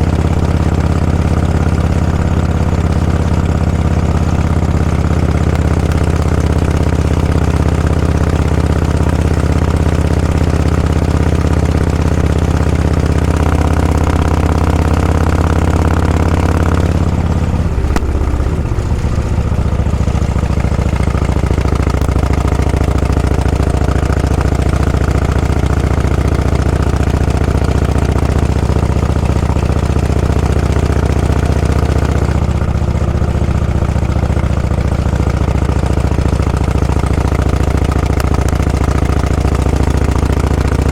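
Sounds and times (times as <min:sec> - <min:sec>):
vehicle engine running at low revs: 0:00.0 - 0:40.9.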